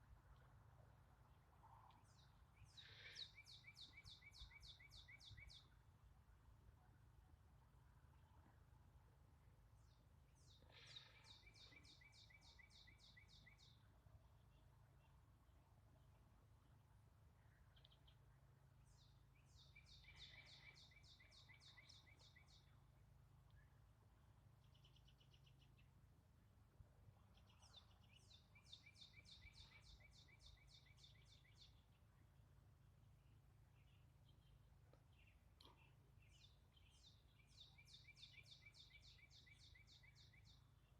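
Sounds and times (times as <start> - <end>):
songbird singing faintly: 0.0 - 40.9.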